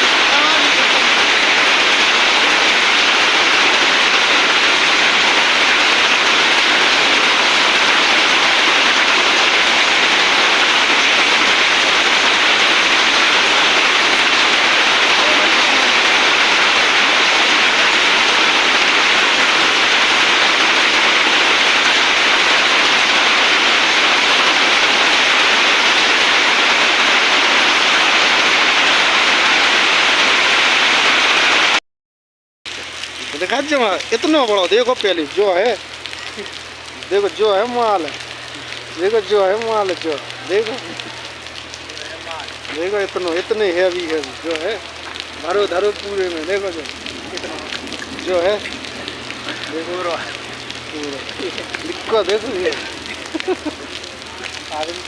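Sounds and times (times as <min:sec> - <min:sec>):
heavy rain pouring: 0:00.0 - 0:31.8, 0:32.7 - 0:55.0.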